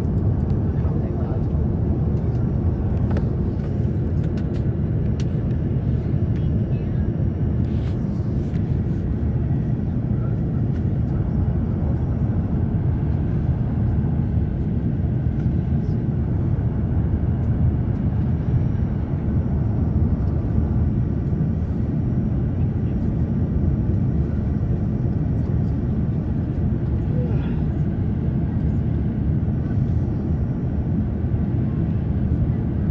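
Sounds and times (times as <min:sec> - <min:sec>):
airliner cabin engine rumble: 0:00.0 - 0:32.9.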